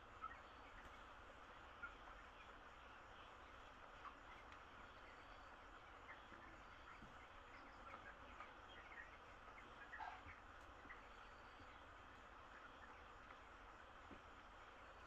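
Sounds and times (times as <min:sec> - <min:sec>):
chicks peeping: 0:00.0 - 0:15.0
steady low hiss: 0:00.0 - 0:15.0.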